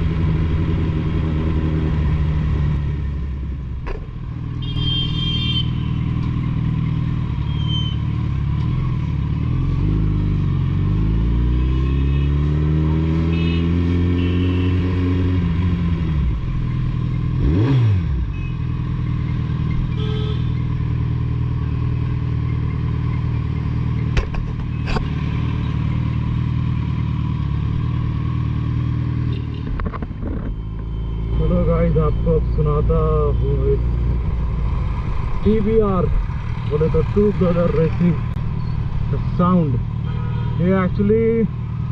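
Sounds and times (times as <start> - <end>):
motorcycle engine accelerating: 5.8 - 40.1.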